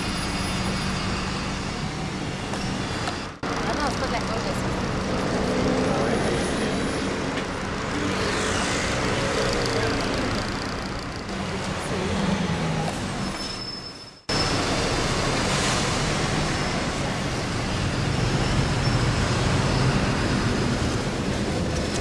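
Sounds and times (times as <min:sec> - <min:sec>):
bus engine rumbling: 0:00.0 - 0:22.0
road traffic: 0:00.0 - 0:22.0.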